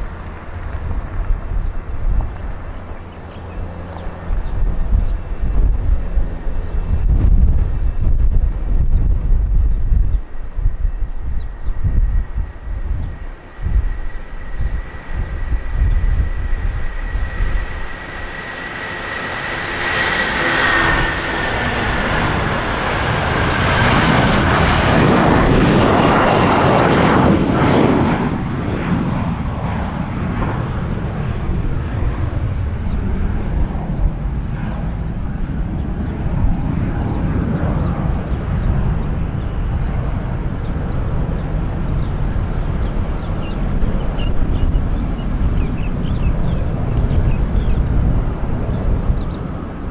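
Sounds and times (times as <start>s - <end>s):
high fan whine: 0.0s - 49.9s
jet engines at takeoff: 0.0s - 49.9s
wind buffeting microphone: 0.0s - 49.9s.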